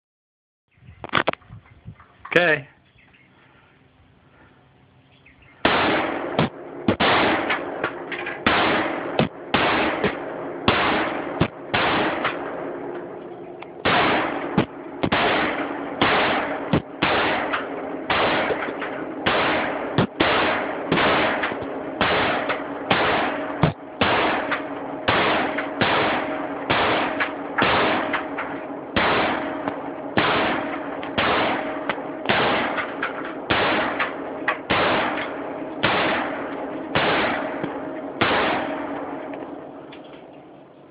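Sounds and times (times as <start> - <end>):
gunshots echoing: 5.6 - 40.3.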